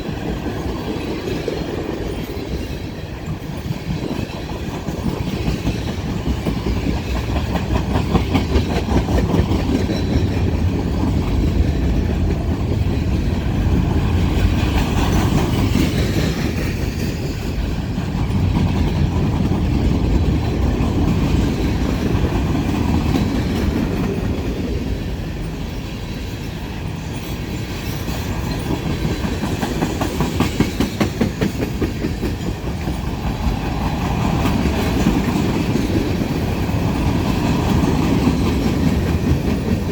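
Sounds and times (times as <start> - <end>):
railcars rumbling: 0.0 - 39.9
train wheels clicking over rail joints: 0.0 - 39.9.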